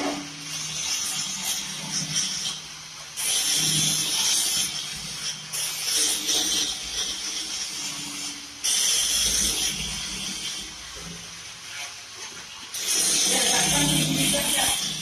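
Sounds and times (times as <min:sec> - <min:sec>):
harsh hissing from metalwork: 0:00.0 - 0:15.0.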